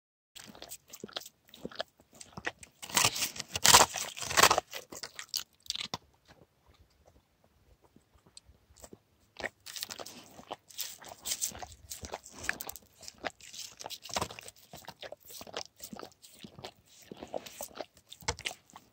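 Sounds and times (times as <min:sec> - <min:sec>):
dog licking and crunching ice: 0:00.4 - 0:06.4, 0:08.7 - 0:18.9.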